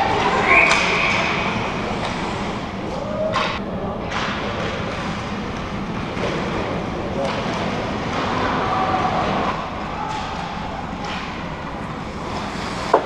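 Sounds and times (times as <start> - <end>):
indoor arena din: 0.0 - 13.0.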